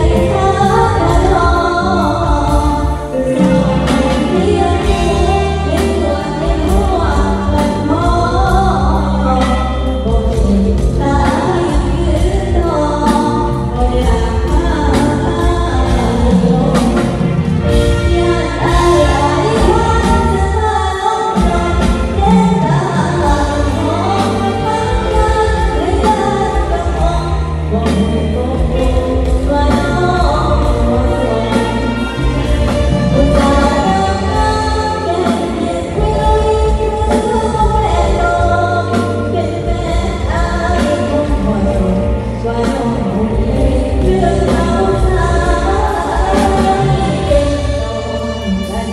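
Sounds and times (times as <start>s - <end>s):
girl singing into microphone: 0.0s - 32.5s, 33.1s - 48.9s
backing music with bass pulse: 0.0s - 48.9s.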